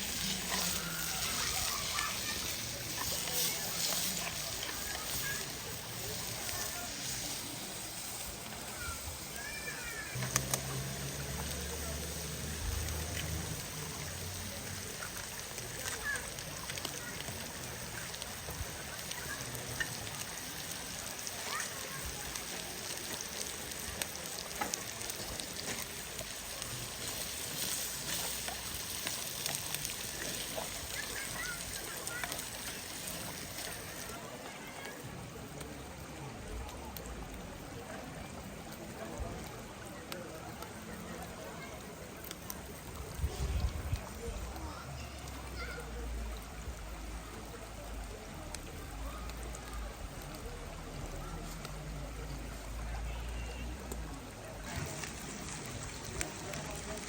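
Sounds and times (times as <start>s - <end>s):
flowing water: 0.0s - 57.0s
food sizzling in a pan: 0.0s - 57.0s.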